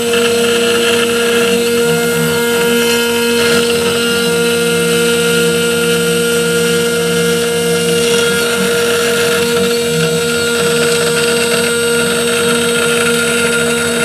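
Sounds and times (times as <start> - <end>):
cutter milling metal: 0.0 - 14.0
low motor tone: 0.0 - 14.0
router spindle whine: 0.0 - 14.0.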